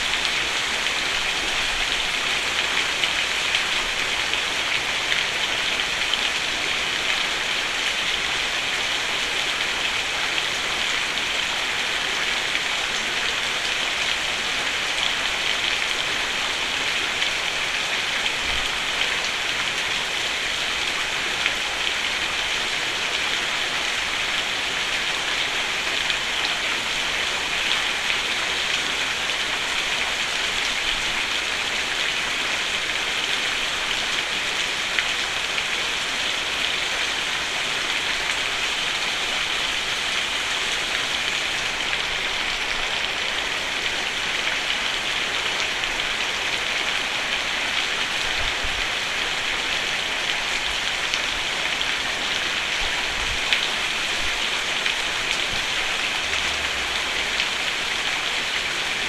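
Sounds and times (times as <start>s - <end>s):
heavy rain drumming on a roof: 0.0s - 59.0s.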